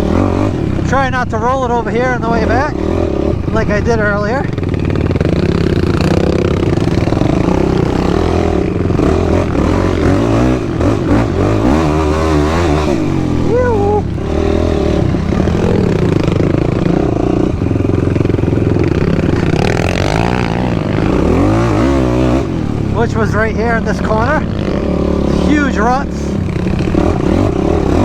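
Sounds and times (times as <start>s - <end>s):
quad engine revving: 0.0s - 28.0s.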